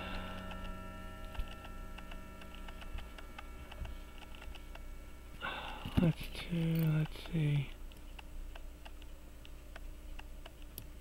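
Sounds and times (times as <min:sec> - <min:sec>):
faint steady hum: 0:00.0 - 0:11.0
small metallic clicks: 0:00.1 - 0:04.9, 0:05.7 - 0:11.0.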